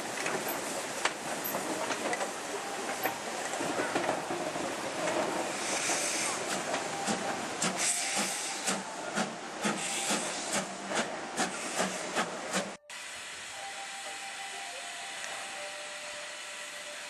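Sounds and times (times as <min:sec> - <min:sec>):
steam hissing: 0:00.0 - 0:17.0
steam locomotive exhaust chuffing: 0:00.0 - 0:17.0.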